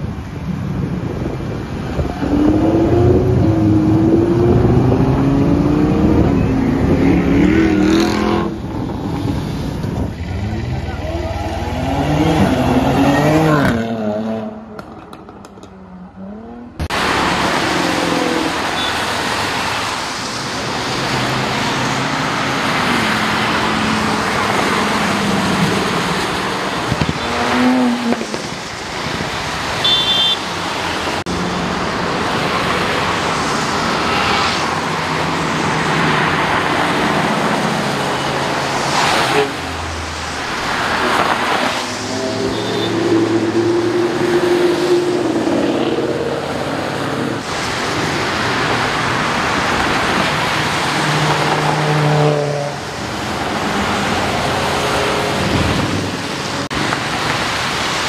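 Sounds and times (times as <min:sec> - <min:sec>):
cars driving on wet road: 0:00.0 - 0:58.0.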